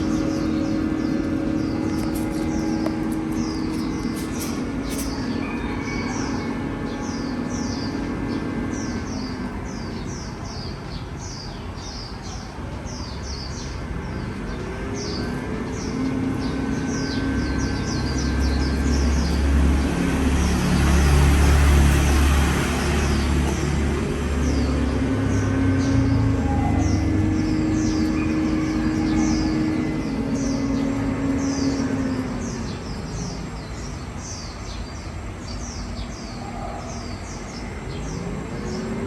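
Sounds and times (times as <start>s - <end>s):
low mechanical rumble: 0.0s - 39.0s
small birds chirping: 0.0s - 39.0s.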